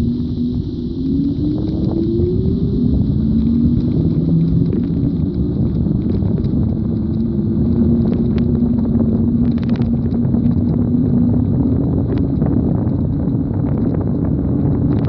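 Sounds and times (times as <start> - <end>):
constant hum: 0.0 - 15.0
road travel rumble: 0.0 - 15.0
wind on microphone: 0.0 - 15.0.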